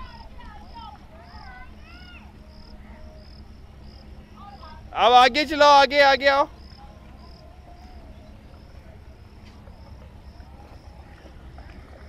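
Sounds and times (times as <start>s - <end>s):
cricket chirping: 0.0s - 12.0s
low steady rumble: 0.0s - 12.0s.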